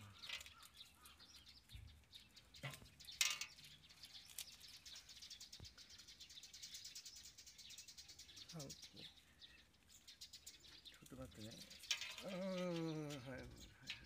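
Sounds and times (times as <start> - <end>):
birds chirping faintly: 0.0 - 14.0.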